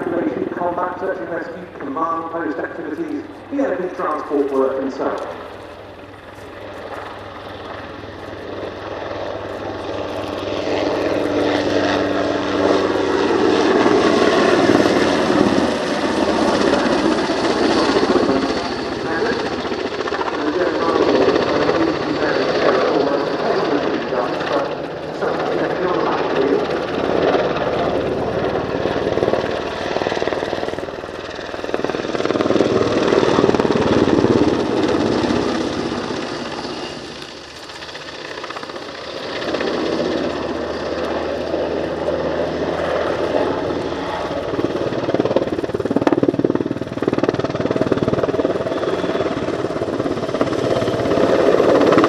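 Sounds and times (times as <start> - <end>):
helicopter rotor and engine: 0.0 - 52.0.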